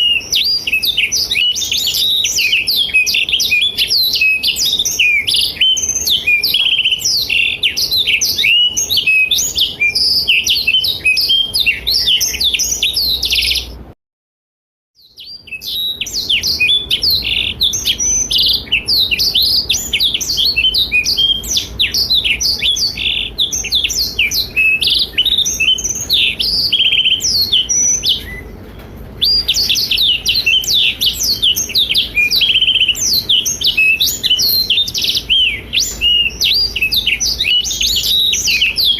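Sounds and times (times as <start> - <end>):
canary twittering song: 0.0 - 13.8, 15.0 - 28.6, 29.2 - 38.9.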